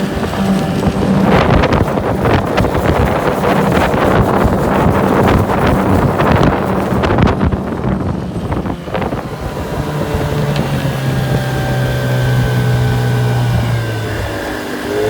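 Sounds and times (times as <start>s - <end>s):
outboard motor droning: 0.0s - 15.0s
wind buffeting microphone: 0.0s - 15.0s.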